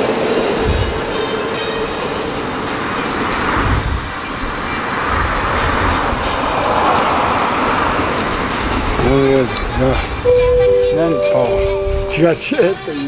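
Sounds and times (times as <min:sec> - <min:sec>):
electric train pulling away: 0:00.0 - 0:13.0
road traffic noise: 0:00.0 - 0:13.0.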